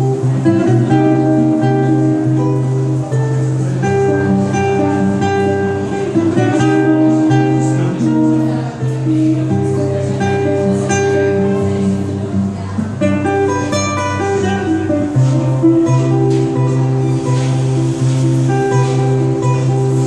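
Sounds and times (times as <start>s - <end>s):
acoustic guitar picked chords: 0.0s - 20.0s.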